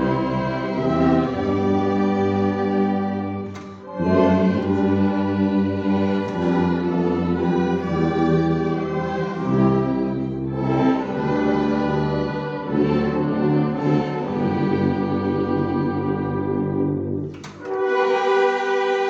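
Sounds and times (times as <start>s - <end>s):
ensemble playing slow hymn: 0.0s - 19.0s
tuba bass line: 0.0s - 19.0s.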